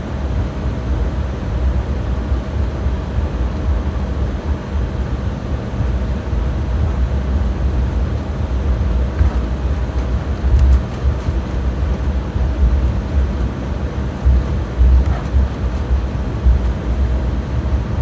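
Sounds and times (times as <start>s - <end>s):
airliner cabin rumble: 2.4s - 18.0s.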